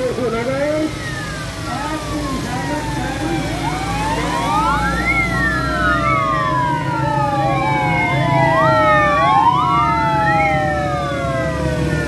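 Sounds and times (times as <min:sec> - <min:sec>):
police sirens wailing: 0:00.0 - 0:12.0
vehicle engines rumbling: 0:00.0 - 0:12.0.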